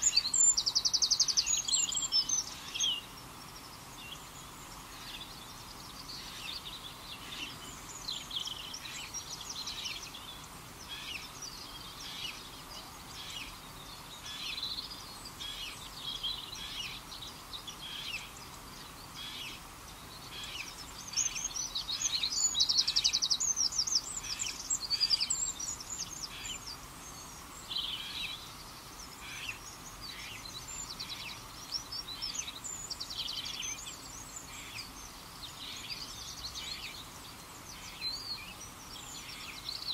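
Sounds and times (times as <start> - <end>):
background hiss: 0.0 - 39.9
birds chirping and trilling: 0.0 - 39.9.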